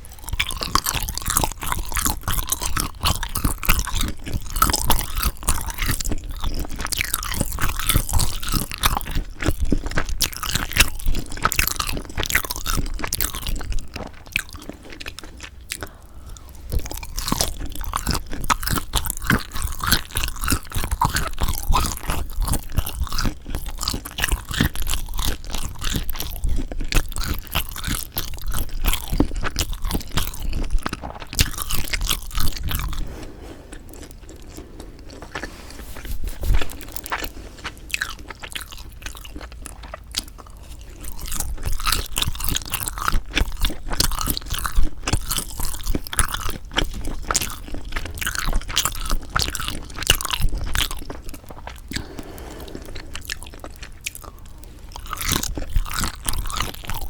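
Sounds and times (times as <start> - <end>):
close-miked chewing: 0.0 - 57.0.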